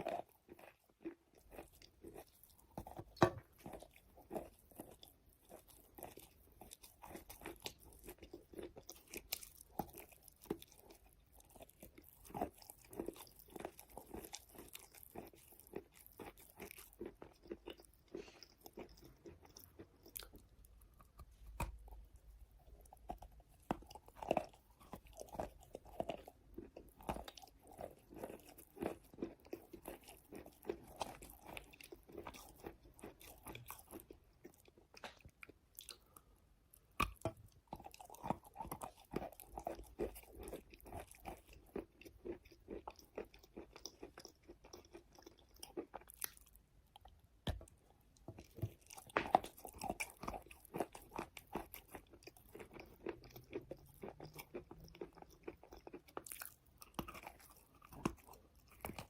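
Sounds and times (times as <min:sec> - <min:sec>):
chewing chalk crunches: 0:00.0 - 0:59.0.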